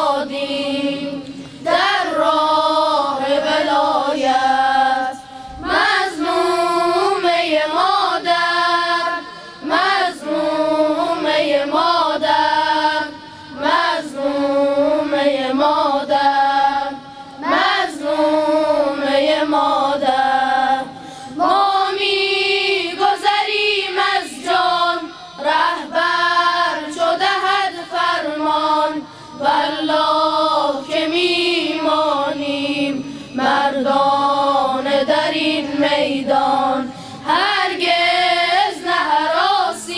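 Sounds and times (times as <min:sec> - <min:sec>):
boys' choir singing in unison: 0:00.0 - 0:39.9.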